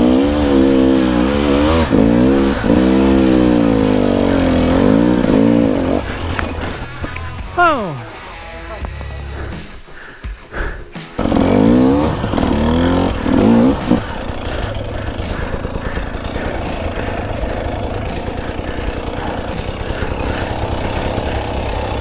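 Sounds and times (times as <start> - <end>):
two-stroke dirt bike engine revving: 0.0 - 7.6, 11.2 - 22.0.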